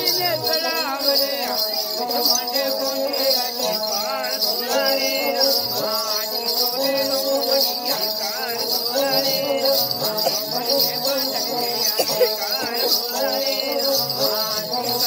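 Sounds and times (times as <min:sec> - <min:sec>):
bells jingling: 0:00.0 - 0:15.0.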